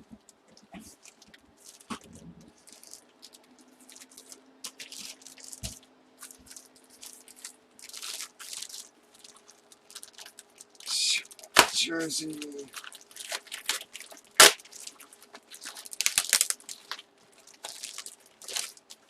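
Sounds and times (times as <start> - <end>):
faint steady hum: 0.0 - 19.0
packaging crinkling and rustling: 0.0 - 19.0.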